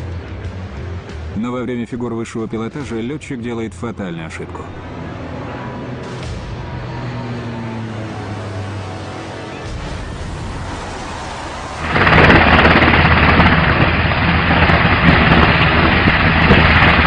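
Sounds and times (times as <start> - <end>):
helicopter rotor wash rushing: 1.2 - 17.0.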